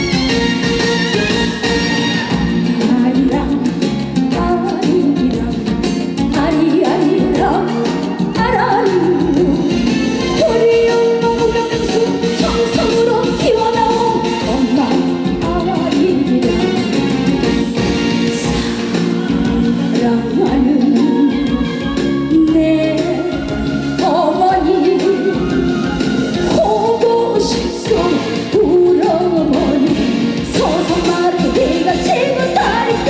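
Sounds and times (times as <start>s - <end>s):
amplified accompaniment with beat: 0.0s - 33.0s
woman singing: 2.3s - 33.0s.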